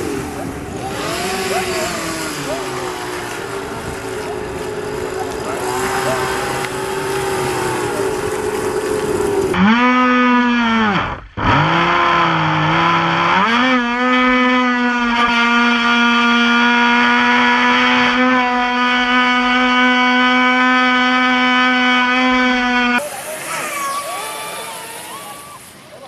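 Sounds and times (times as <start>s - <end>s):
model boat motor droning: 0.0s - 26.0s
speedboat engine: 0.0s - 26.0s.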